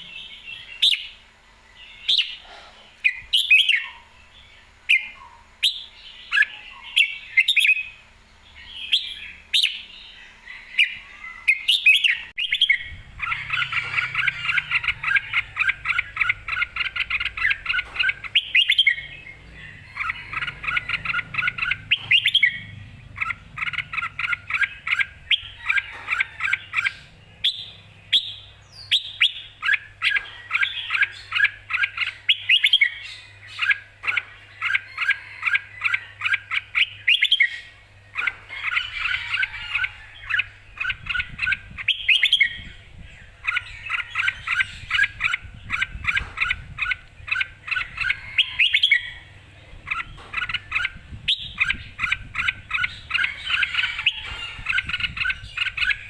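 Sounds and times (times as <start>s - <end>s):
bird chirping song: 0.0s - 56.0s.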